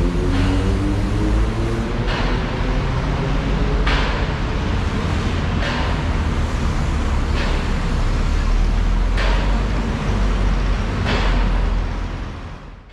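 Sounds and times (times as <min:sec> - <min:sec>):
traffic rumble: 0:00.0 - 0:12.9.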